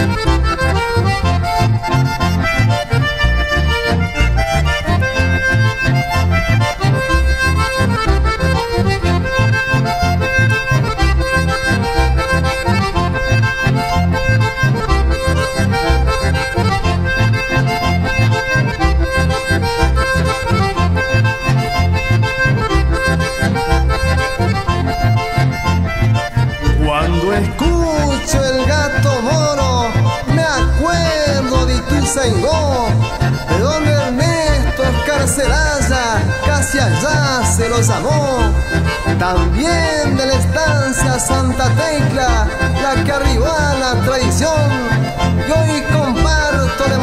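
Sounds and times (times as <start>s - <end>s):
accordion chords: 0.0s - 47.0s
bass beat: 0.0s - 47.0s.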